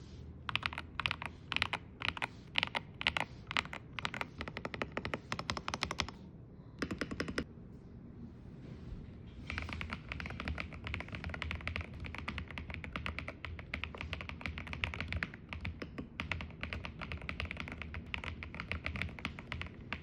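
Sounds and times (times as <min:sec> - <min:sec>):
mechanical keyboard typing: 0:00.5 - 0:06.2, 0:06.8 - 0:07.5, 0:09.5 - 0:20.0.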